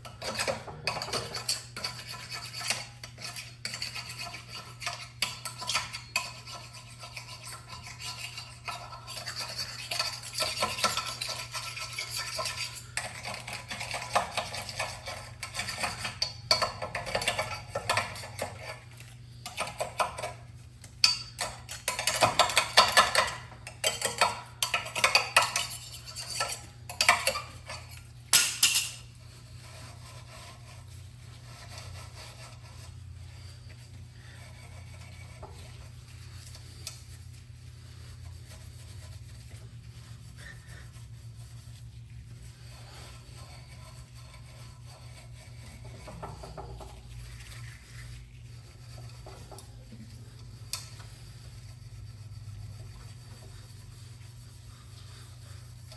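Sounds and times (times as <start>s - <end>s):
scrubbing and scraping metal: 0.0s - 55.9s.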